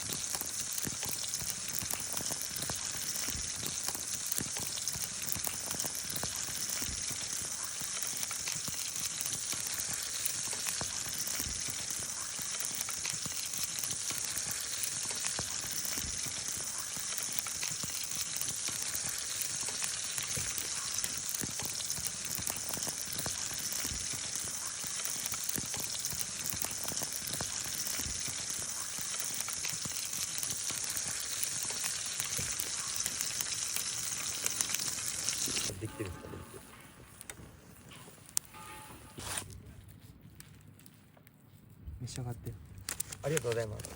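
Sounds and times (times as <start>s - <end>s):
food deep-frying in hot oil: 0.0s - 39.5s, 42.0s - 43.9s.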